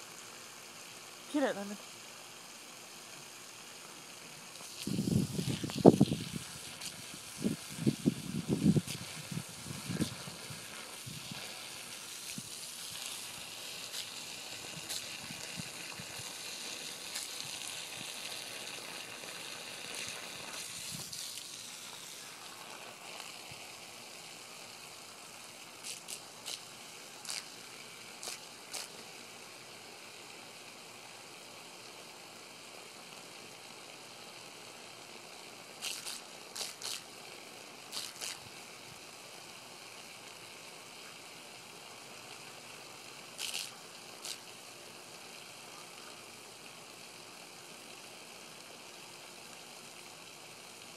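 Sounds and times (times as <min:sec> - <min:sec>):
hose spraying water on lawn: 0:00.0 - 0:50.9.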